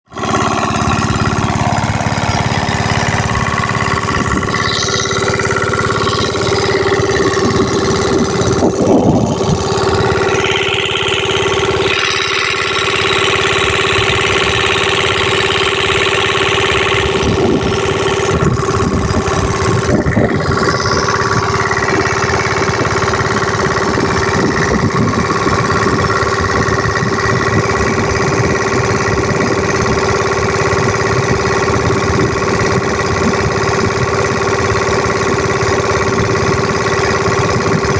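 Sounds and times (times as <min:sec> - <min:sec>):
diesel engine knocking: 0:00.0 - 0:37.9.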